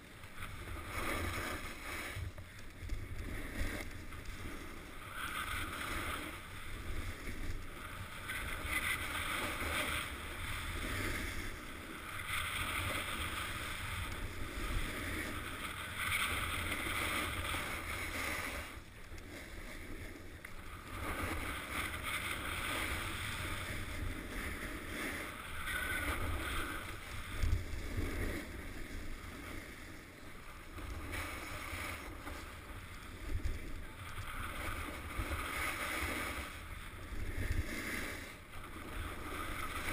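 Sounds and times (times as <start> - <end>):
ski edges scraping on snow: 0.0 - 39.9
wind rumbling on microphone: 0.0 - 39.9.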